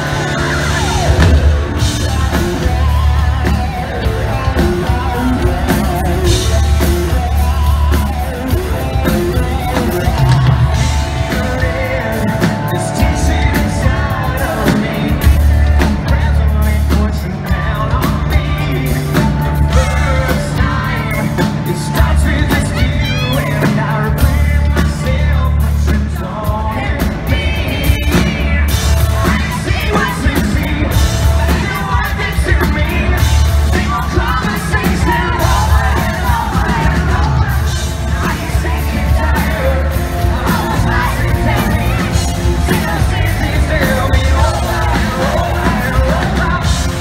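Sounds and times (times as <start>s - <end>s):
live rock band playing: 0.0s - 47.0s
person singing: 0.0s - 47.0s.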